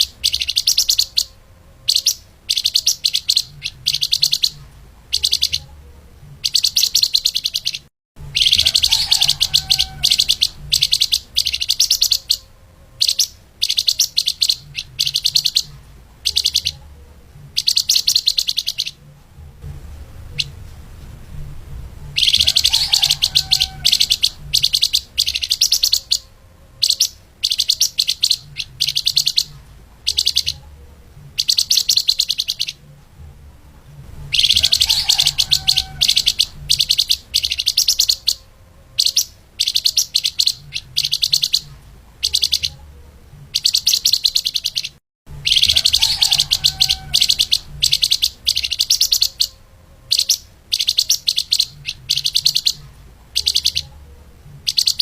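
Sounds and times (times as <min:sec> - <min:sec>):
faint low hum: 0:00.0 - 0:55.0
songbird rapid chirping song: 0:00.0 - 0:55.0.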